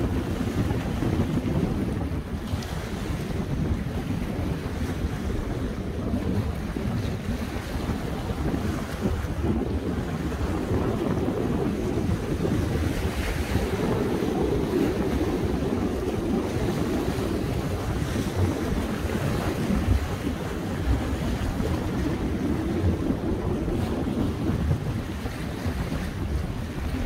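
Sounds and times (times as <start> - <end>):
sea surf: 0.0 - 27.0
wind buffeting microphone: 0.0 - 27.0.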